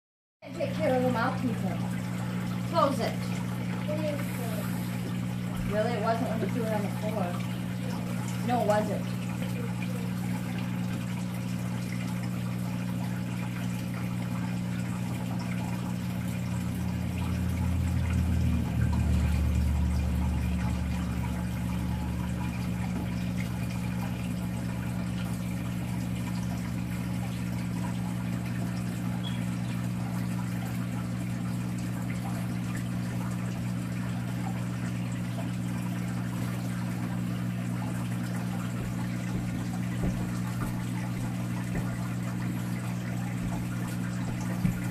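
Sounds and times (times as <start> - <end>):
aquarium pump humming: 0.4 - 44.9
water trickling: 0.5 - 44.9.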